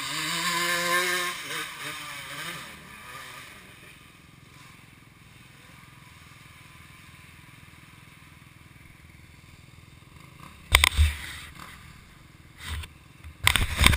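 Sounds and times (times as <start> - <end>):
dirt bike engine idling: 0.0 - 13.9.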